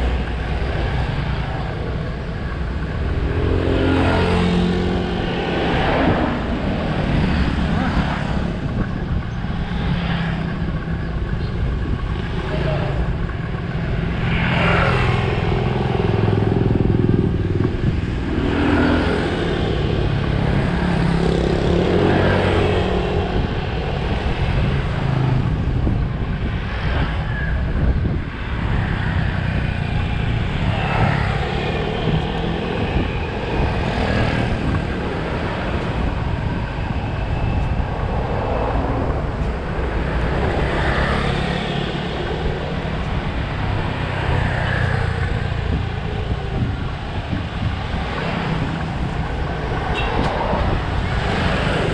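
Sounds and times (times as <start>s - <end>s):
road and wind rush: 0.0s - 51.9s.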